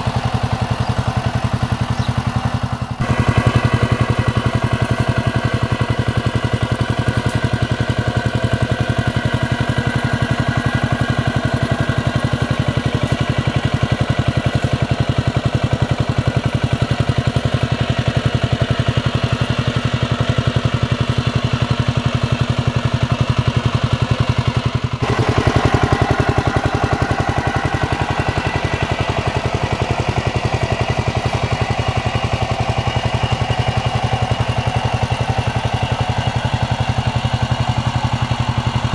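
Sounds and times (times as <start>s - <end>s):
tiller diesel engine running: 0.0s - 38.9s.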